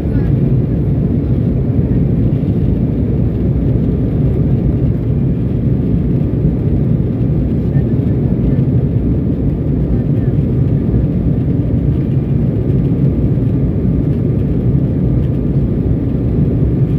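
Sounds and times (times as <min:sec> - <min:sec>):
jet engines and air rush in cabin: 0:00.0 - 0:16.9.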